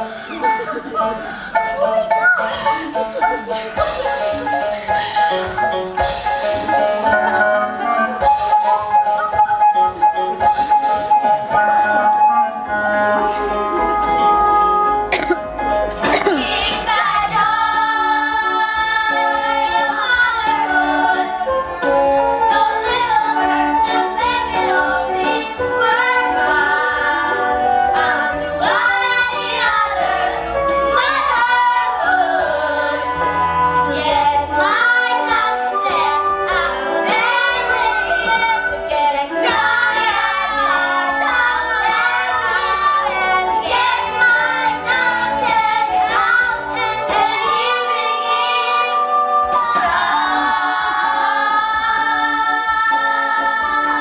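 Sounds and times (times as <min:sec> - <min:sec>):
instrumental accompaniment: 0:00.0 - 0:54.0.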